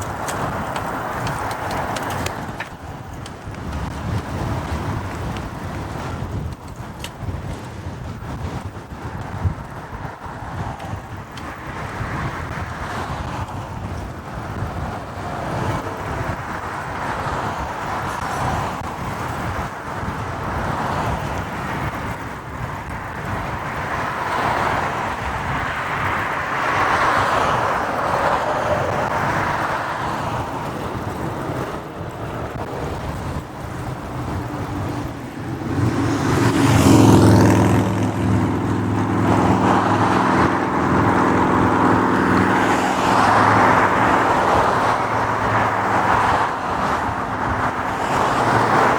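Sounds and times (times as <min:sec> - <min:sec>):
city street traffic: 0:00.0 - 0:48.9
wind rush: 0:00.0 - 0:48.9.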